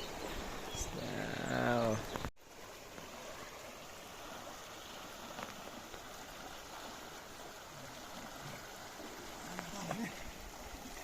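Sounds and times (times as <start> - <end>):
stream flowing water: 0.0 - 11.0.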